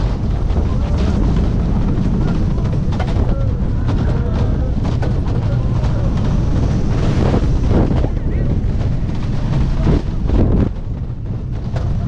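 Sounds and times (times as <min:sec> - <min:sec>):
rattling clacks: 0:00.0 - 0:12.0
roller coaster rumbling on track: 0:00.0 - 0:12.0
wind buffeting microphone: 0:00.0 - 0:12.0.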